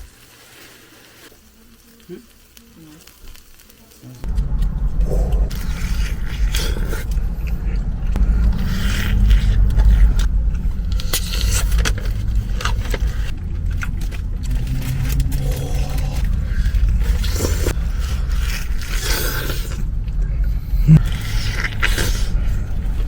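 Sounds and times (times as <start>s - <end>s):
steady low rumble: 4.0s - 23.0s.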